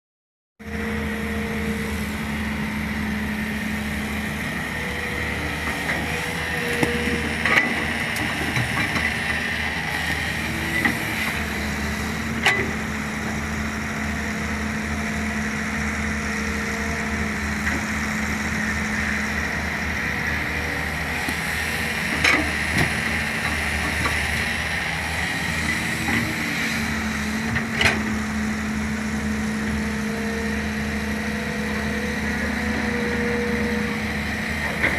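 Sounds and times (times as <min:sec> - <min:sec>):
excavator diesel engine running: 0:00.6 - 0:34.9
higher engine tone: 0:00.6 - 0:34.9.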